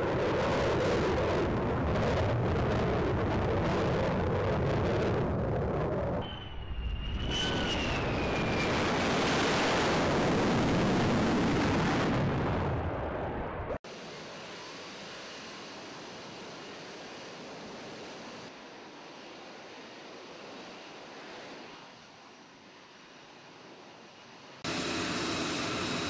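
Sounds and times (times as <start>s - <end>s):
jet aircraft engine roar: 0.0s - 26.0s
wind: 0.0s - 26.0s.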